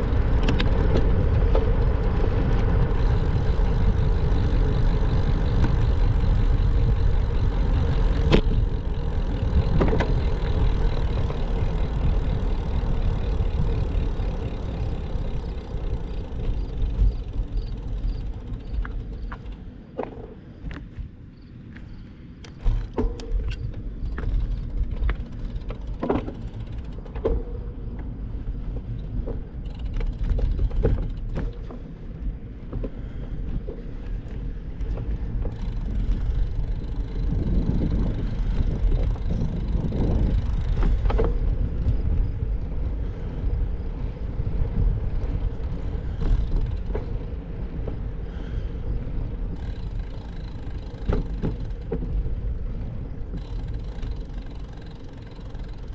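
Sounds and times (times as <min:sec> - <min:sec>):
bicycle tyre noise: 0:00.0 - 0:55.9
bike clicks and knocks: 0:00.0 - 0:55.9
wind rumble on microphone: 0:00.0 - 0:55.9.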